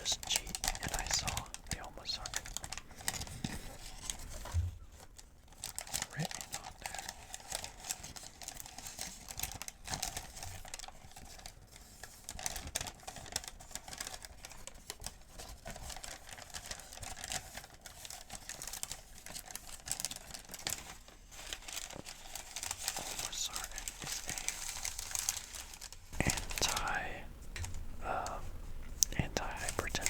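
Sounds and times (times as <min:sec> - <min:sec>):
paper crinkling and rustling: 0:00.0 - 0:30.0.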